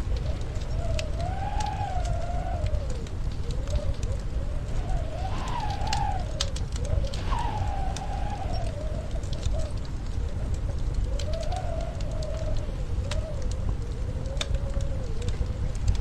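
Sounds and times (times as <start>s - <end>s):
storm wind howling: 0.0s - 16.0s
wood fire crackling: 0.0s - 16.0s.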